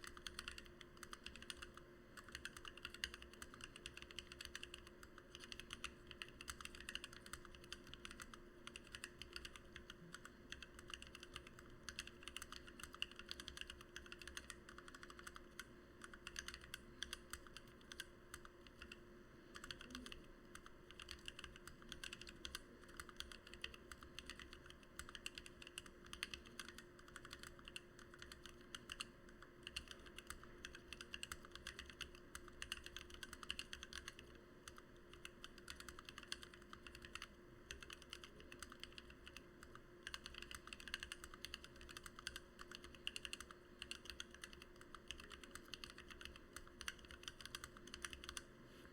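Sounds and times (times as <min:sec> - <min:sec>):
fast typing on mechanical keyboard: 0:00.0 - 0:48.5.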